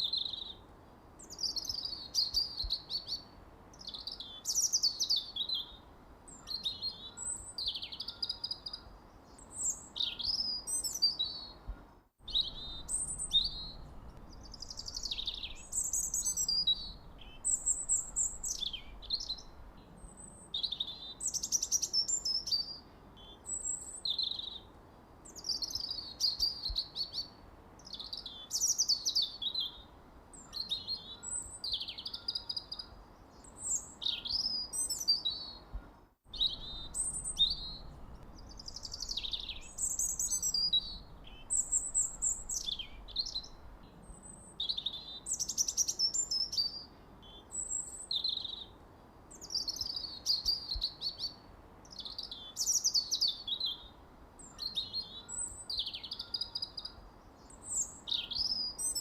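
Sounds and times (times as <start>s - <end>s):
faint background hiss: 0.0s - 59.0s
songbirds chirping and singing: 1.2s - 59.0s.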